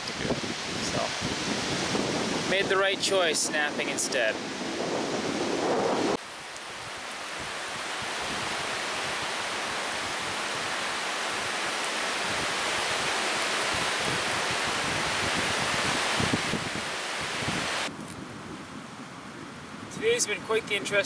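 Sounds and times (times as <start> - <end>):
wind buffeting microphone: 0.0 - 6.2, 6.8 - 21.0
strong wind through trees: 0.0 - 21.0.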